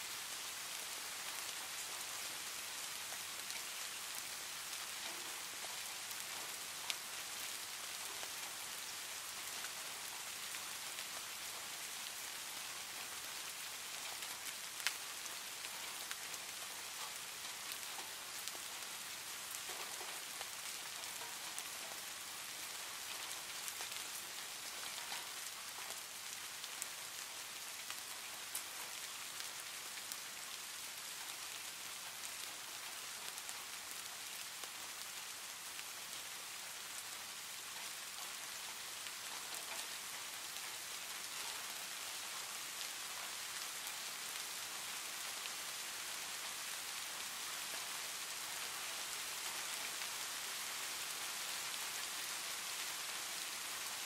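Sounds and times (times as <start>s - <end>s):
rain falling: 0.0s - 54.0s
sharp rain ticks: 0.0s - 54.0s.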